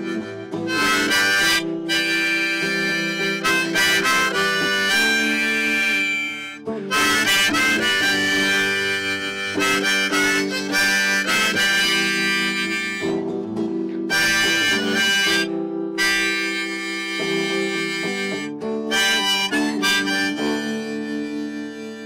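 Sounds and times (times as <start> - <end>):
harmonica playing: 0.0 - 22.0.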